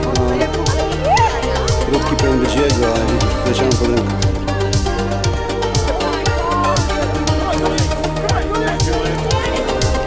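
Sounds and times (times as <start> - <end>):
dance music: 0.0 - 10.0.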